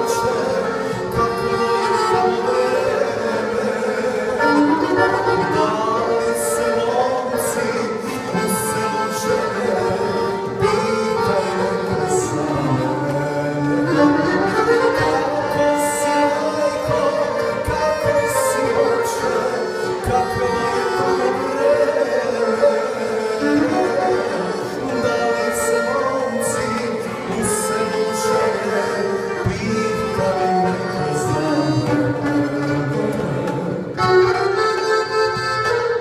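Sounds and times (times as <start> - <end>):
accordion: 0.0 - 36.0
bagpipe: 0.0 - 36.0
violin: 0.0 - 36.0.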